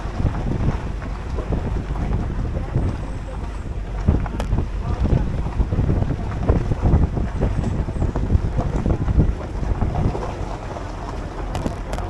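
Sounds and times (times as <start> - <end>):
vehicle rumble: 0.0 - 12.0
wind buffeting microphone: 0.0 - 12.0.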